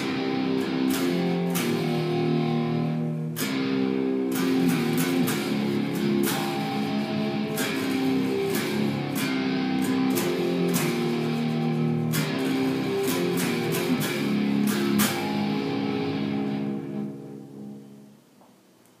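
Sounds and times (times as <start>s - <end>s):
electric guitar played with pick: 0.0s - 18.2s.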